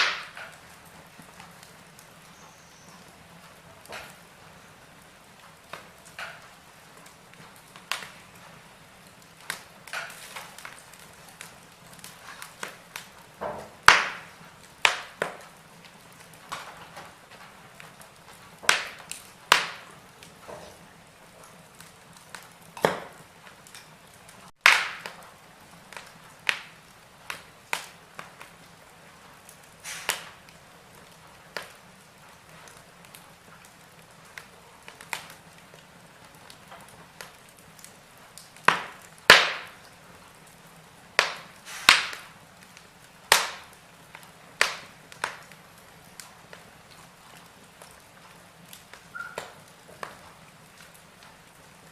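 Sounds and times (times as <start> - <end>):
faint steady hiss: 0.0 - 51.9
firewood crackling and popping: 0.0 - 51.9.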